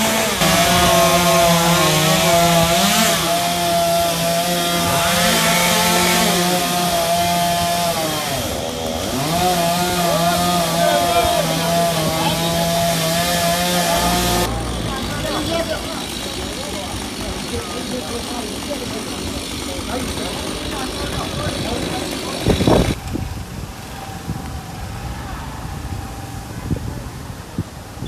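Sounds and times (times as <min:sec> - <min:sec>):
chainsaw cutting wood: 0:00.0 - 0:23.2.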